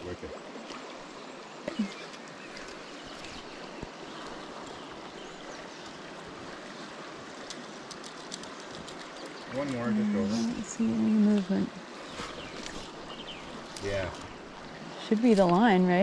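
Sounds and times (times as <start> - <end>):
stream rushing over gravel: 0.0 - 16.0.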